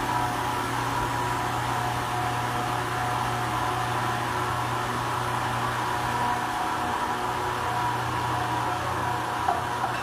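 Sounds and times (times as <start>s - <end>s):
milling machine running: 0.0s - 10.0s.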